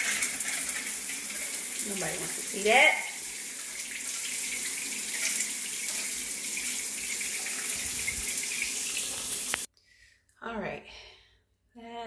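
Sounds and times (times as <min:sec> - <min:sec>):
shower water running: 0:00.0 - 0:09.7.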